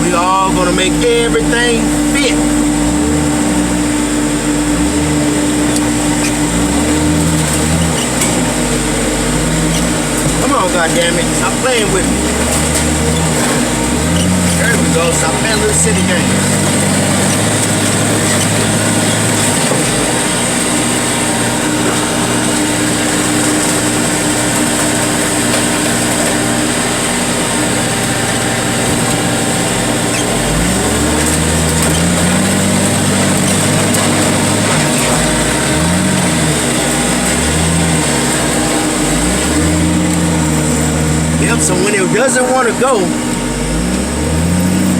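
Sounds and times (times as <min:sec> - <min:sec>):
heavy machinery engine revving: 0:00.0 - 0:44.9.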